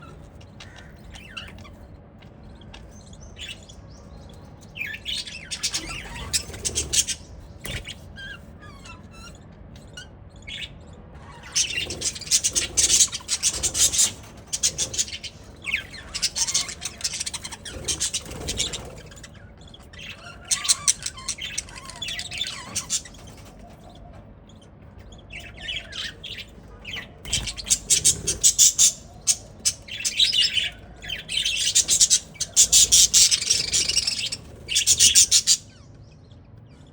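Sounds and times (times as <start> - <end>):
budgerigars chattering and chirping: 0.0 - 36.9.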